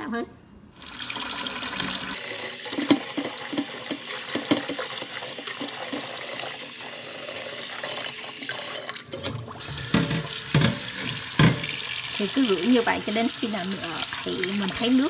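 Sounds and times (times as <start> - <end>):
tap water running into bowl: 0.8 - 15.0.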